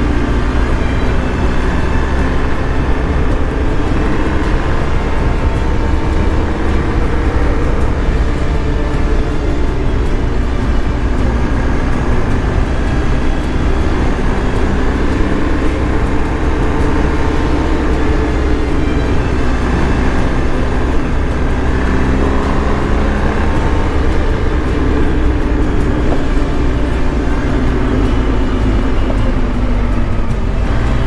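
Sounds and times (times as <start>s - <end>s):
motorcycle engine cruising: 0.0s - 31.0s
wind noise: 0.0s - 31.0s.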